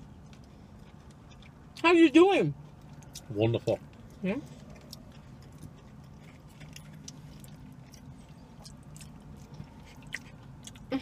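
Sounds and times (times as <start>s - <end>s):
man chewing: 0.0s - 1.8s, 2.6s - 10.9s
low hum inside car: 0.0s - 11.0s.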